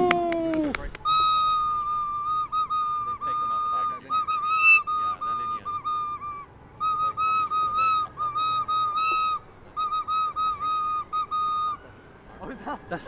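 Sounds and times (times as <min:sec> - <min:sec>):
shrill recorder notes: 0:00.0 - 0:13.0.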